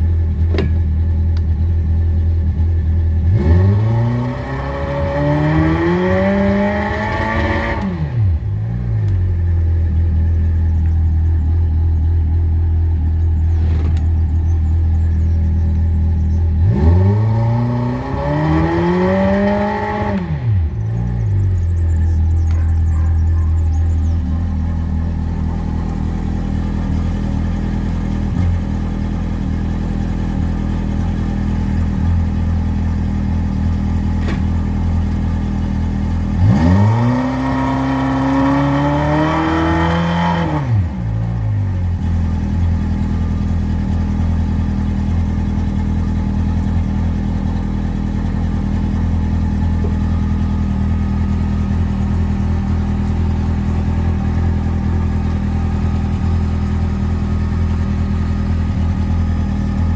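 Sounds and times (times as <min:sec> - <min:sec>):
outboard motor idling and revving: 0:00.0 - 0:59.9.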